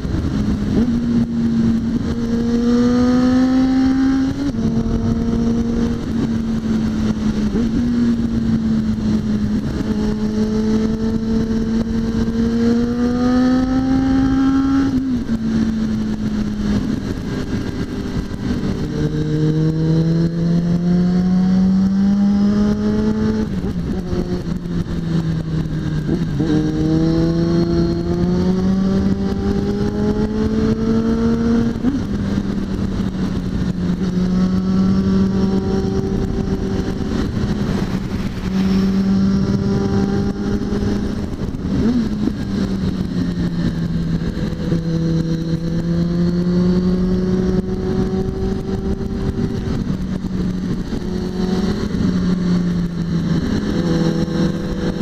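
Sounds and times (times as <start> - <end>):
motorcycle engine revving: 0.0 - 55.0
wind and road rush: 0.0 - 55.0.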